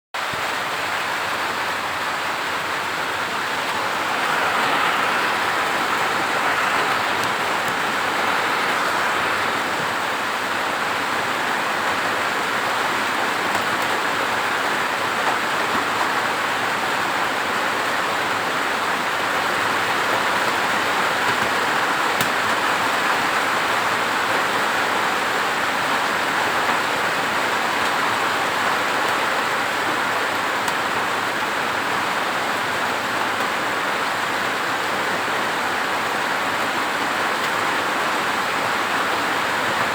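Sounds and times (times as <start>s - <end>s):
steady rain falling: 0.2s - 39.9s.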